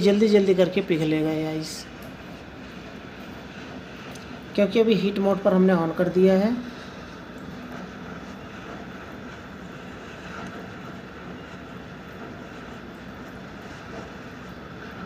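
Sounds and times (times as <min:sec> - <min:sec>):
air conditioner blower whooshing: 0:00.0 - 0:15.0.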